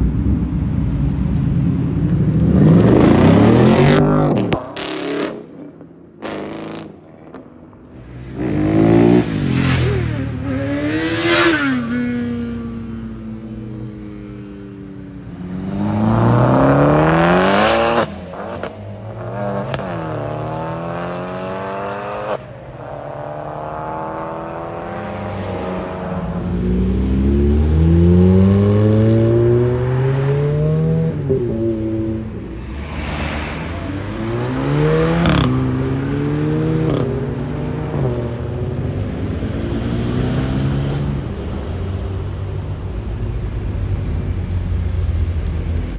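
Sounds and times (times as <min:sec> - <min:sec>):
car engines accelerating hard: 0:00.0 - 0:45.9.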